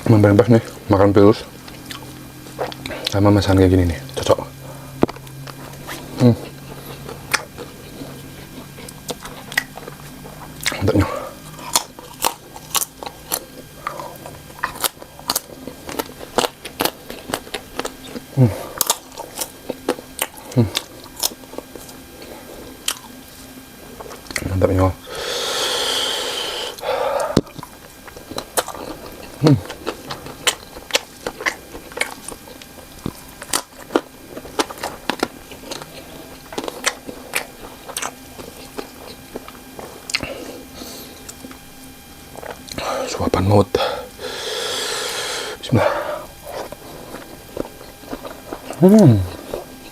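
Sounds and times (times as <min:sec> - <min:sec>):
close chewing with crisp crunches: 0:00.2 - 0:24.9, 0:25.9 - 0:44.3, 0:44.9 - 0:49.9.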